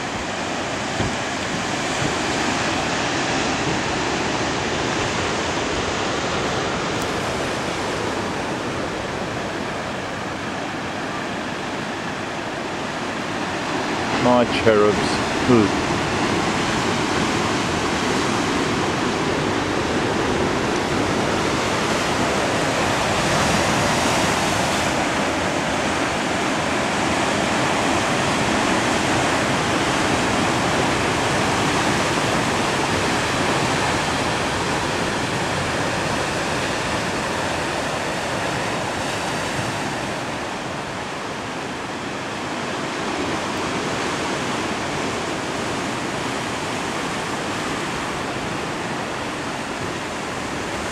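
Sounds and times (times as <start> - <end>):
surf washing over rocks: 0.0 - 50.9.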